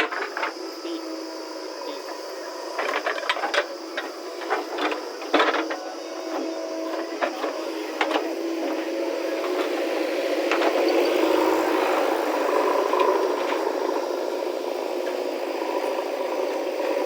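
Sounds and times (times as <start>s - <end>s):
backhoe engine humming: 0.0s - 17.0s.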